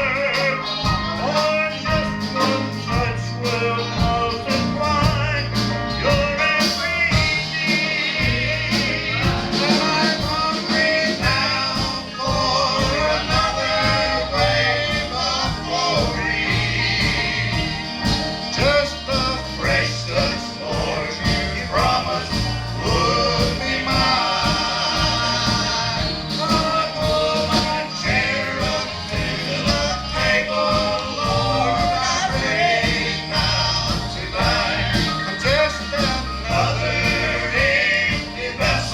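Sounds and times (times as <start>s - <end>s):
gospel music with singing: 0.0s - 38.9s.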